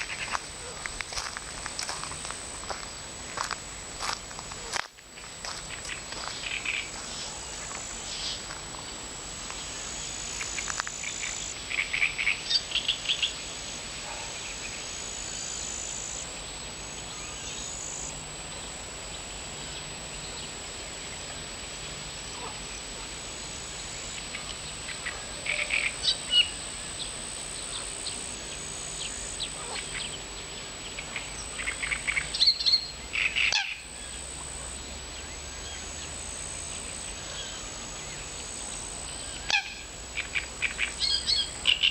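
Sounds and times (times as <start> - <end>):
steady background hiss: 0.0 - 41.9.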